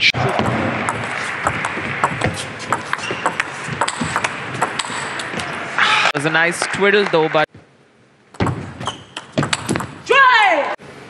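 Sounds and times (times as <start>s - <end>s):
background hall noise hiss: 0.0s - 11.0s.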